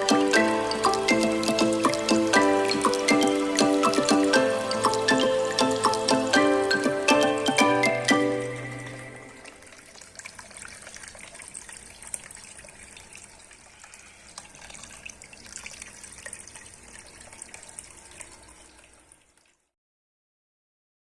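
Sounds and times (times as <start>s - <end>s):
water trickling in fountain: 0.0s - 19.7s.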